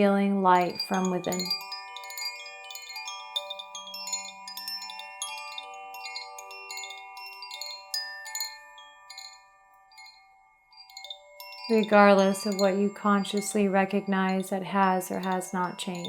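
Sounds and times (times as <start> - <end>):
chimes tinkling: 0.0 - 16.0.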